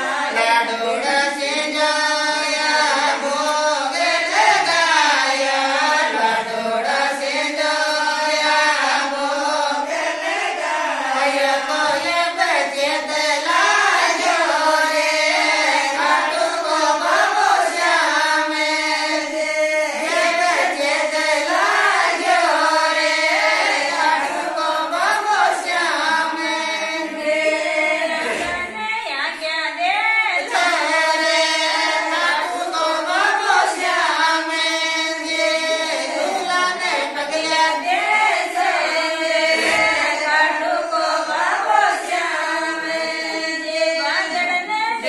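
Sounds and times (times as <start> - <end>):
women singing folk song: 0.0 - 45.0.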